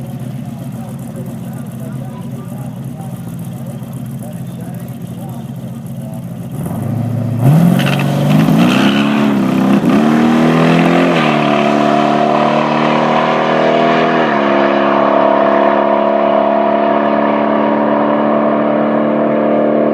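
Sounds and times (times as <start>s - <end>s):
car engine accelerating at full throttle: 0.0s - 19.9s.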